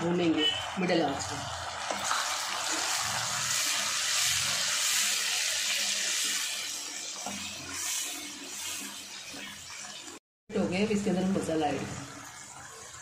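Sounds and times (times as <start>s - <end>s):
food sizzling in hot oil: 0.0s - 10.2s, 11.6s - 13.0s.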